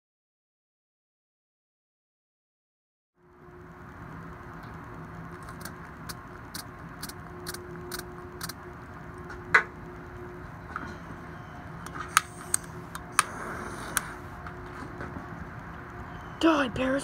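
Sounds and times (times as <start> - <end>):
low hum and hiss: 3.2 - 17.0.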